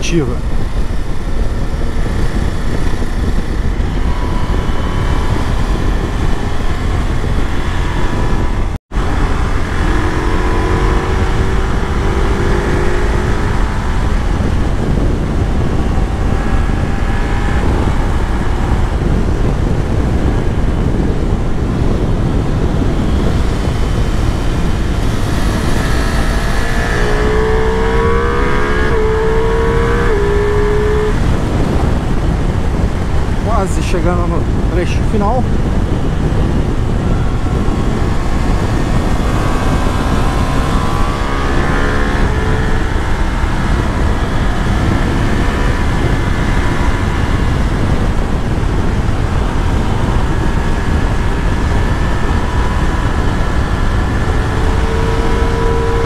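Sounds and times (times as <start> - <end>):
heavy wind rush: 0.0 - 56.0
motorcycle engine revving: 0.0 - 56.0.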